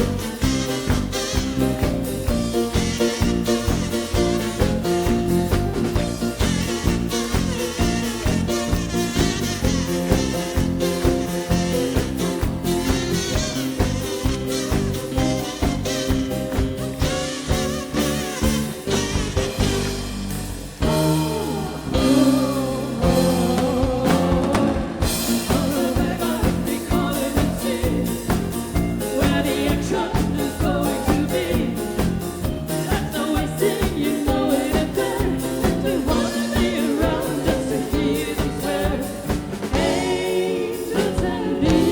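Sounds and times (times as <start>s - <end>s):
live band playing: 0.0s - 41.9s
steady drum beat: 0.0s - 41.9s.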